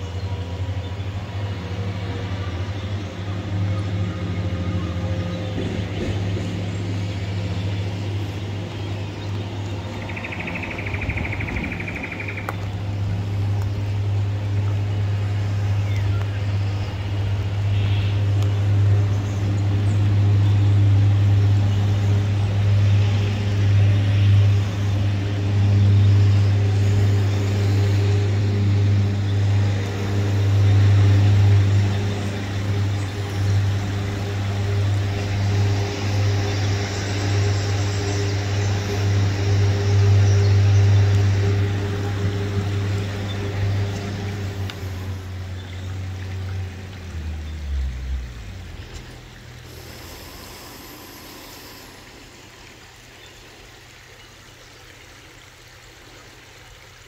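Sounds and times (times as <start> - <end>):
vehicle engine hum: 0.0 - 57.0.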